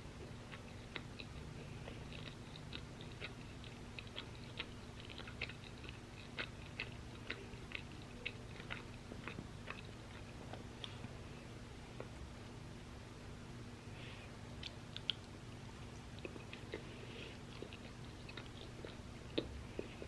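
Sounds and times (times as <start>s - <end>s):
chewing crunchy fries: 0.0s - 11.3s, 14.5s - 20.0s
faint steady hum: 0.0s - 20.0s.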